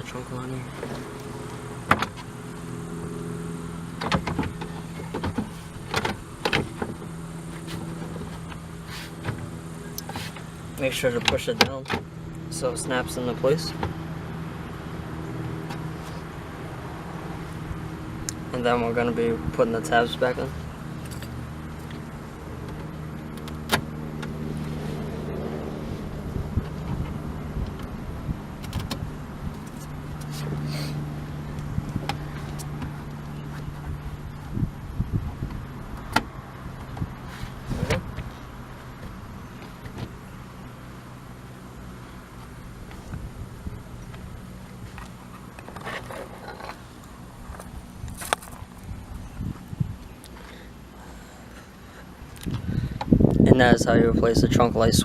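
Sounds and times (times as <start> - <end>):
low hum: 0.0 - 53.4.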